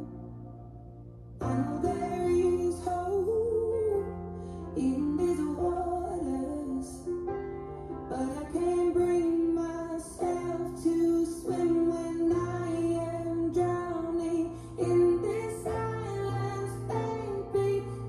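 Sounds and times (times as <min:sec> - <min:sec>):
song with sung melody: 0:01.4 - 0:18.0.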